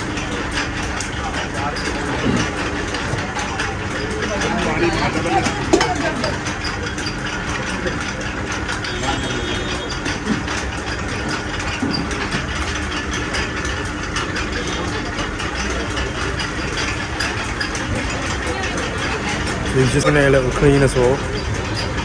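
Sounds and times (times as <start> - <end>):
machine humming: 0.0 - 22.0.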